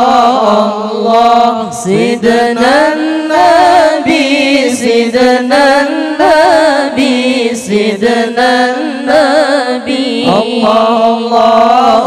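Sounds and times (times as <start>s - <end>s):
group of voices holding low note: 0.0s - 12.0s
man singing ornamented line: 0.0s - 12.0s.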